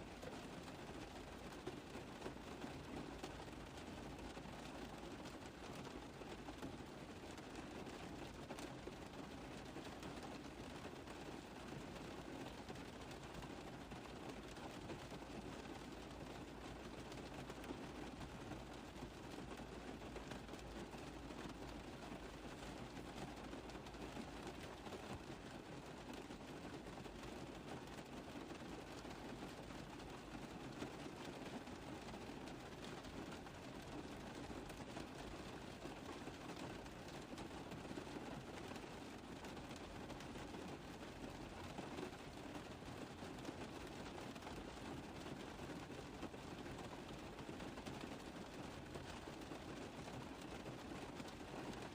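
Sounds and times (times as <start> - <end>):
rain tapping on a car roof: 0.0 - 51.9.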